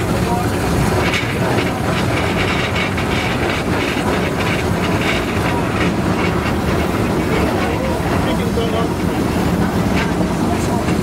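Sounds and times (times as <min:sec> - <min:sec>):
train rumbling: 0:00.0 - 0:11.0
wheels clicking and rattling: 0:00.0 - 0:11.0.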